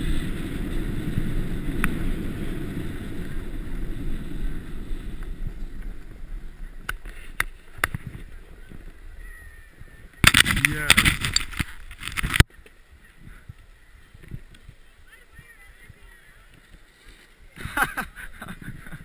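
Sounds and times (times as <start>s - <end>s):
snowboard sliding over snow: 0.0s - 19.0s
wind buffeting microphone: 0.0s - 19.0s.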